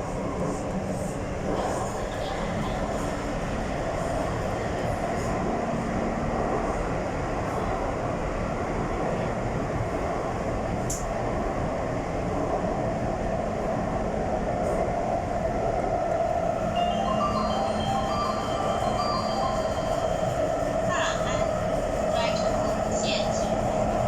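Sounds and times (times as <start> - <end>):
underground train rumbling: 0.0 - 24.0.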